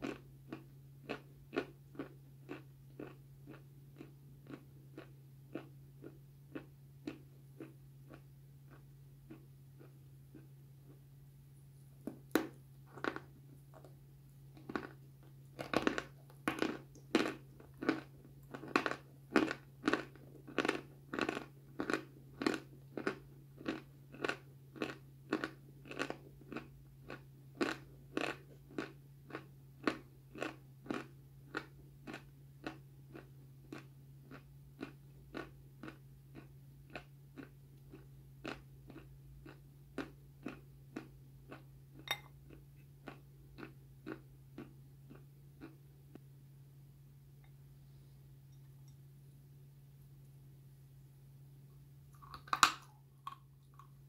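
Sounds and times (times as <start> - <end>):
crunchy food being chewed: 0.0 - 46.3, 52.1 - 54.0
low steady hum: 0.0 - 54.0.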